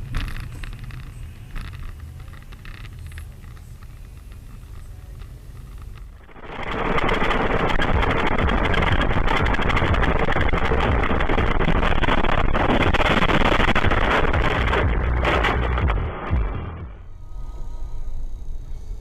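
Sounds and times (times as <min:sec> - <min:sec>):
moving vehicle rushing rumble: 0:00.0 - 0:19.0.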